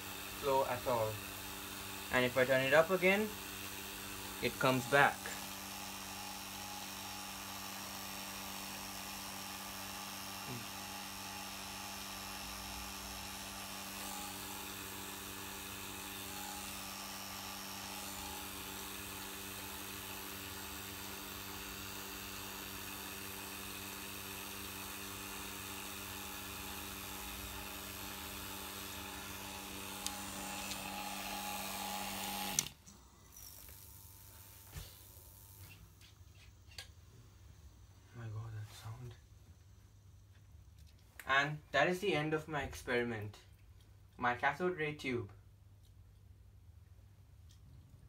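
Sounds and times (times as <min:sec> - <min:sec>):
electric vacuum pump running: 0:00.0 - 0:39.0.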